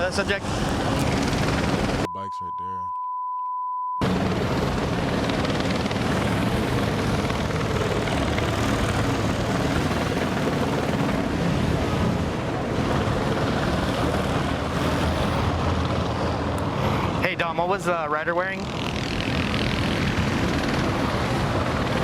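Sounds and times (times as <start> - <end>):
helicopter rotor drone: 0.0 - 2.2, 4.0 - 22.0.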